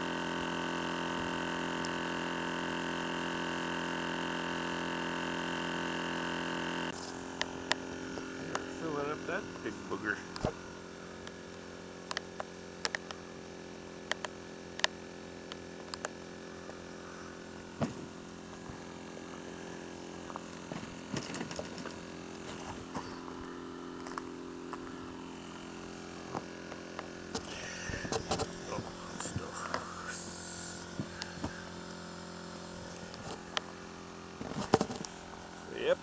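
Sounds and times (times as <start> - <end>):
electric air pump running: 0.0 - 36.0.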